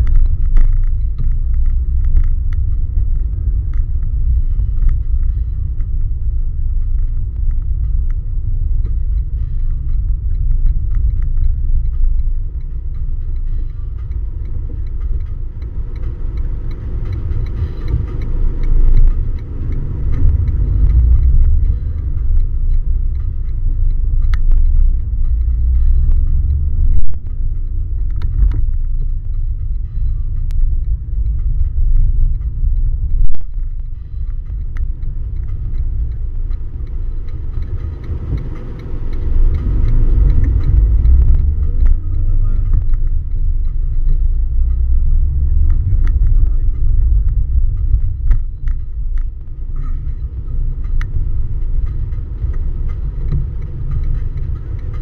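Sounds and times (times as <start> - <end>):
engine and road rumble: 0.0 - 55.0
light clicks and rattles: 0.0 - 55.0.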